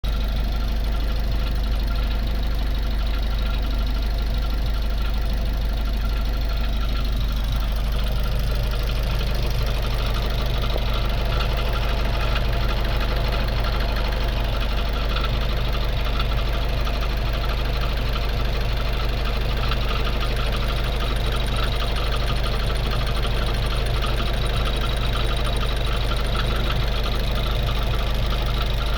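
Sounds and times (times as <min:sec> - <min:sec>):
car engine running with knocking: 0:00.0 - 0:28.9.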